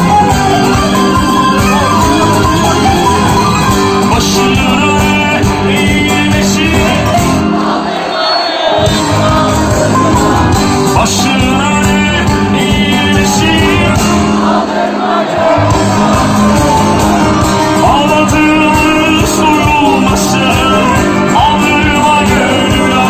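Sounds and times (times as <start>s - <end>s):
lead singer singing: 0.0s - 23.0s
live band playing: 0.0s - 23.0s.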